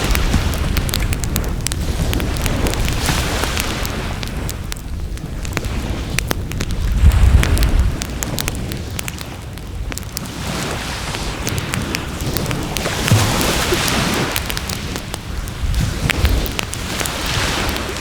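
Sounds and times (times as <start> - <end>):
bonfire crackling and popping: 0.0 - 18.0
low fire rumble: 0.0 - 18.0.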